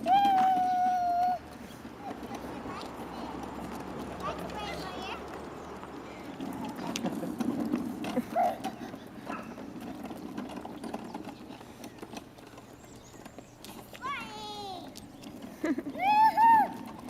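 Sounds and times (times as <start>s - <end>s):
plastic toy rumbling and rattling: 0.0s - 17.0s.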